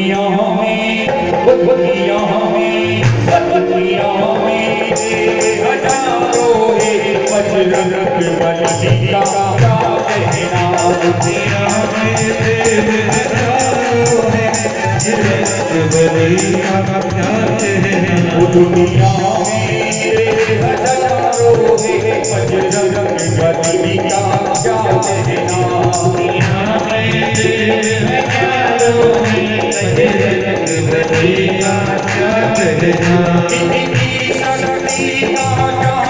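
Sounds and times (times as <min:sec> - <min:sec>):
devotional music ensemble: 0:00.0 - 0:36.0
keyboard melody: 0:00.0 - 0:36.0.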